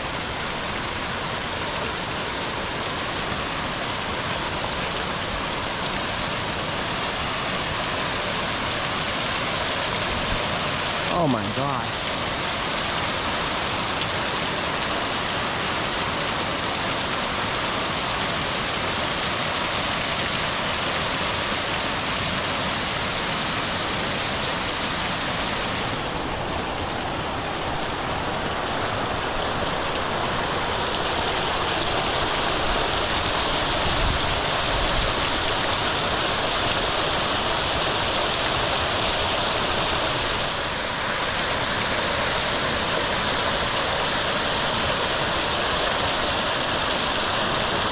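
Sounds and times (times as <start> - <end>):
water rushing over cascade: 0.0 - 47.9.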